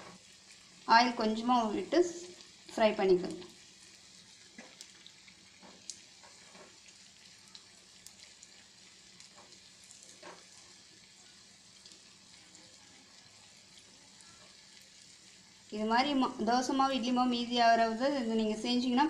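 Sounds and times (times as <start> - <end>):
fritters sizzling in hot oil: 0.0 - 19.0.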